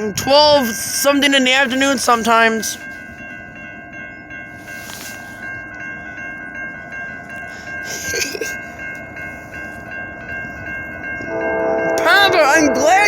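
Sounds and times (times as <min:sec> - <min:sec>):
crossing bell ringing: 0:00.0 - 0:13.0
freight train rumble: 0:00.0 - 0:13.0.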